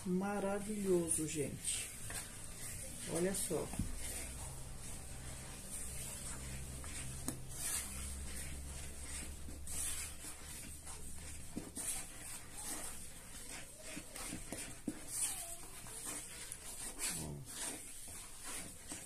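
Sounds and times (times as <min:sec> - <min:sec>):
spoon stirring thick batter: 0:00.0 - 0:19.0.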